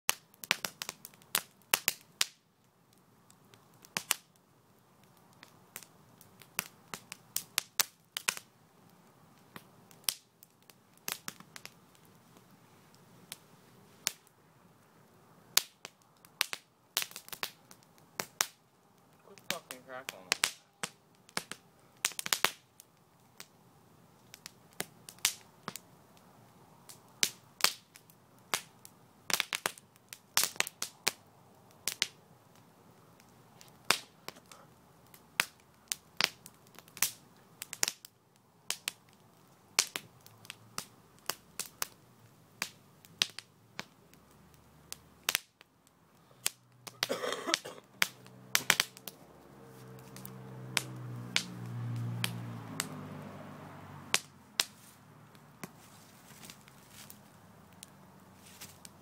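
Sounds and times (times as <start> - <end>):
fire crackling: 0.1 - 59.0.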